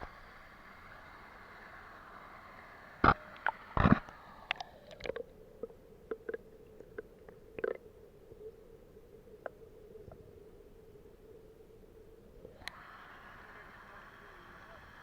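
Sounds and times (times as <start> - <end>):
faint hiss: 0.0 - 15.0
faint steady tone: 0.0 - 15.0.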